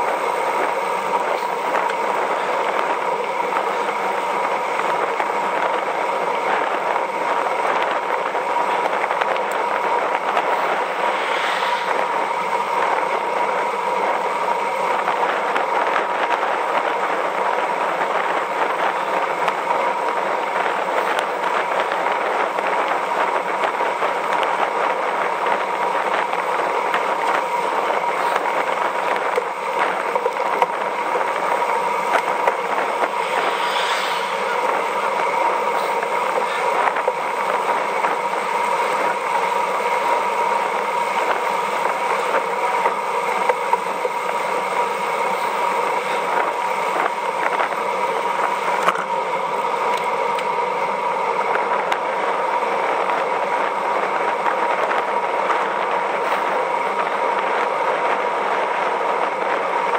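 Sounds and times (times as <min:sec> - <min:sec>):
thin steady whine: 0:00.0 - 0:59.9
tyres on asphalt: 0:00.0 - 0:59.9
wind over microphone: 0:00.0 - 0:59.9.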